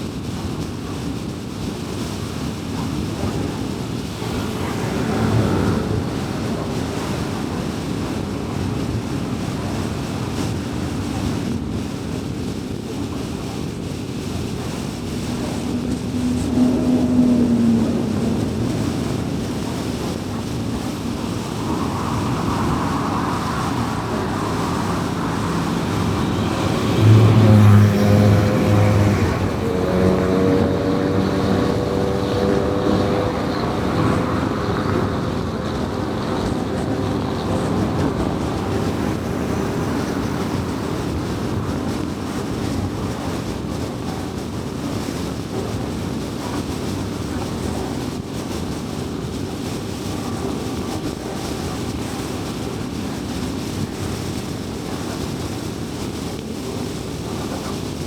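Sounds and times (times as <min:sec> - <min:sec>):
tyre and road rumble: 0:00.0 - 0:58.0
engine hum: 0:00.1 - 0:58.0
vehicles passing: 0:01.4 - 0:11.6, 0:13.1 - 0:58.0.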